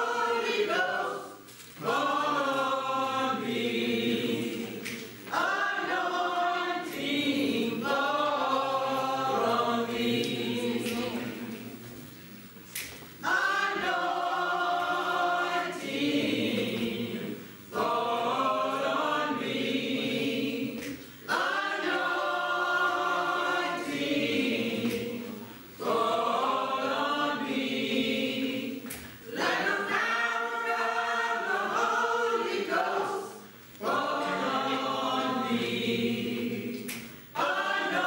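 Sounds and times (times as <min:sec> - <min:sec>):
choir singing a hymn: 0:00.0 - 0:12.0, 0:13.2 - 0:38.0.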